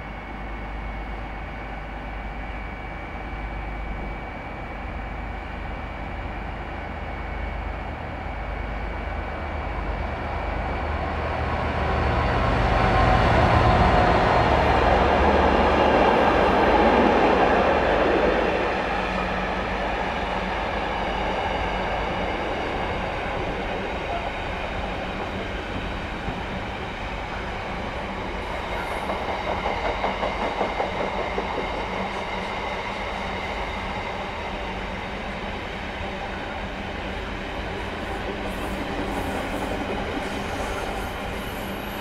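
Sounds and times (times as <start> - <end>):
diesel locomotive engine: 0.0 - 42.0.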